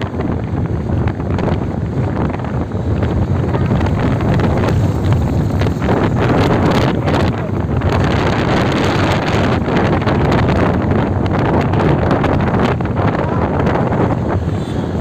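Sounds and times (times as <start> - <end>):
road and traffic noise: 0.0 - 15.0
wind rumbling on microphone: 0.0 - 15.0.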